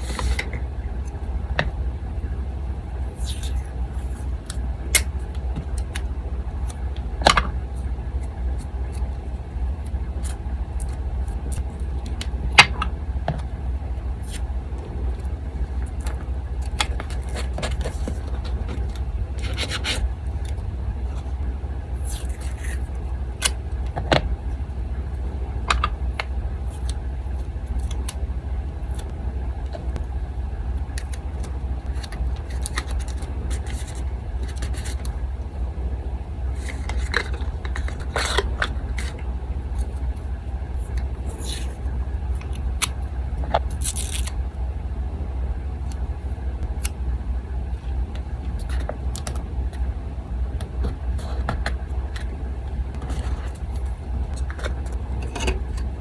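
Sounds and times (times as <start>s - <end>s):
electric fan humming: 0.0s - 56.0s.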